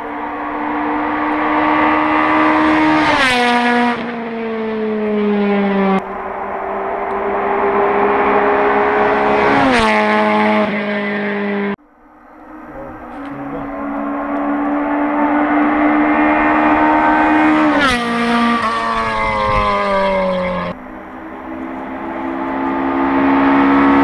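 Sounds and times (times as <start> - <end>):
rally cars passing at full throttle: 0.0 - 24.0.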